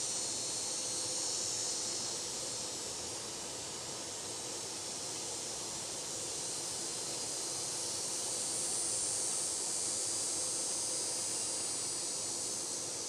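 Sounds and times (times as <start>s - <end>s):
insects singing in chorus: 0.0s - 13.0s
outdoor ambient hiss: 0.0s - 13.0s.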